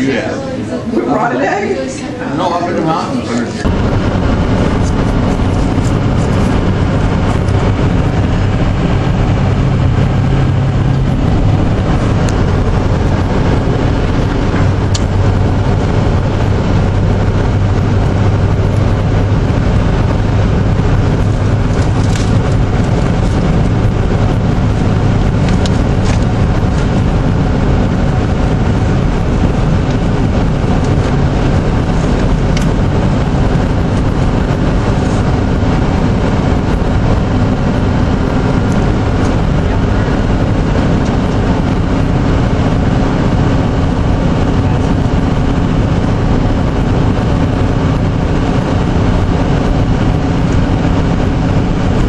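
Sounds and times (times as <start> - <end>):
road and tyre noise: 0.0 - 52.0
low engine hum: 3.6 - 52.0.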